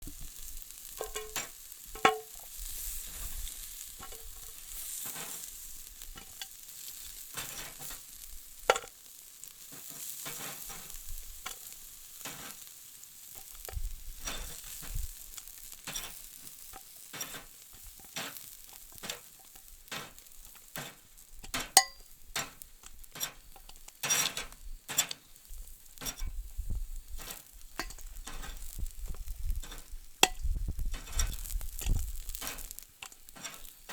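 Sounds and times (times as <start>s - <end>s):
food sizzling on a grill: 0.0s - 33.9s.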